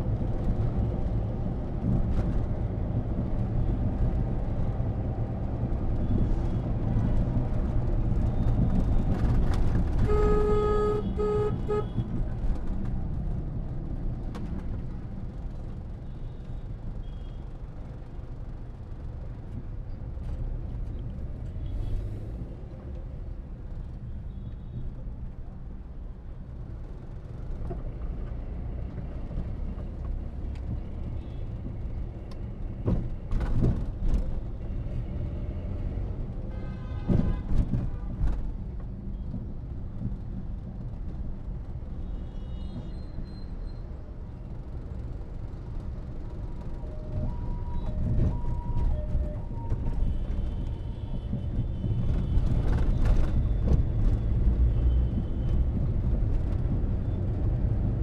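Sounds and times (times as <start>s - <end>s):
sudden vehicle noises: 0.0s - 58.0s
traffic: 0.0s - 58.0s.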